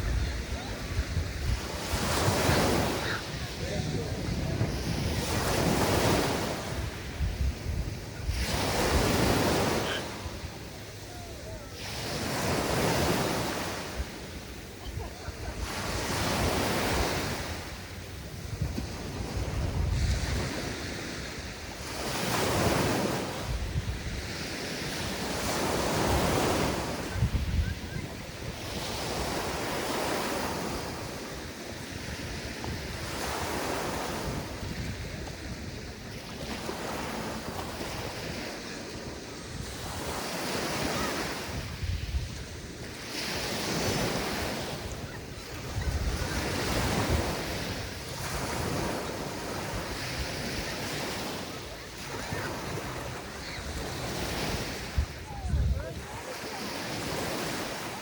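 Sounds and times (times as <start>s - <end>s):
waves breaking on beach: 0.0s - 58.0s
wind buffeting microphone: 0.0s - 58.0s.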